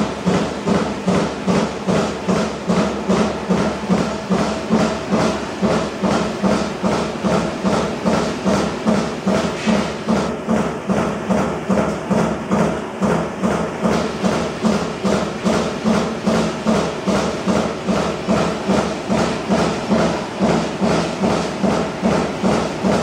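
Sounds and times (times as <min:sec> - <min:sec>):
punch press punching sheet metal: 0:00.0 - 0:23.0.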